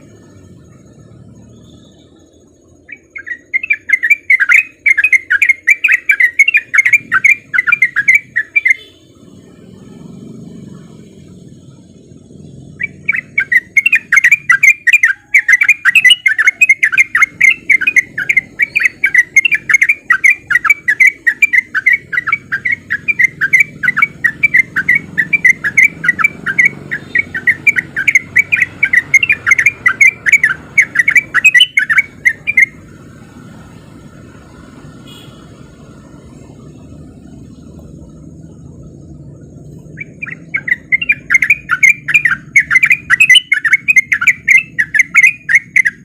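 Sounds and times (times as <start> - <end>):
bird singing quick chattering notes: 0.0 - 9.1, 11.9 - 32.9, 36.4 - 46.0
faint low background noise: 0.0 - 46.0.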